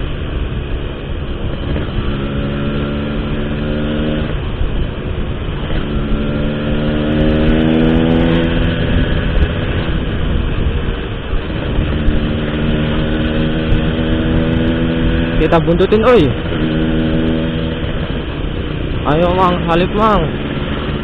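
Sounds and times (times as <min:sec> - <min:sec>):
motorcycle exhaust note: 0:00.0 - 0:21.0.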